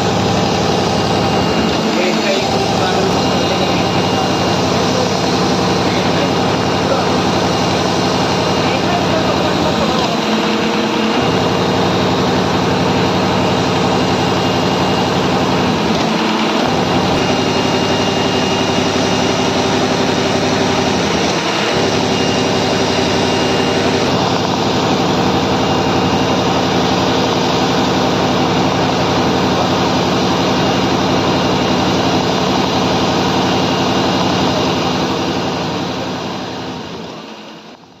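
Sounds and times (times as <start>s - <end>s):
sewing machine whirring: 0.0s - 37.8s.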